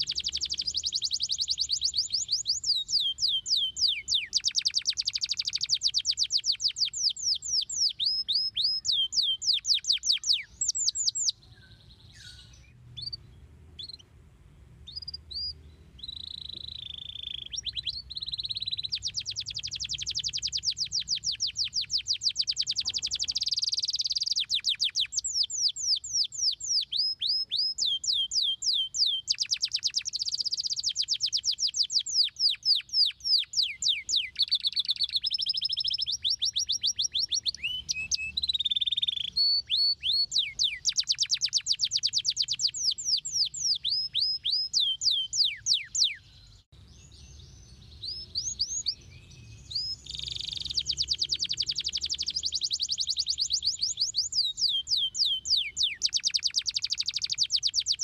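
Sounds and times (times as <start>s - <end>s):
canary singing trills: 0.0s - 14.2s, 14.8s - 58.0s.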